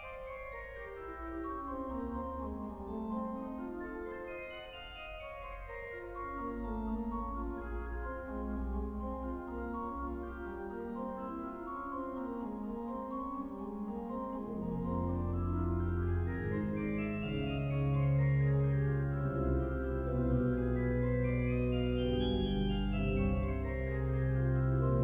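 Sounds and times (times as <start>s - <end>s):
pipe organ playing: 0.0s - 25.0s.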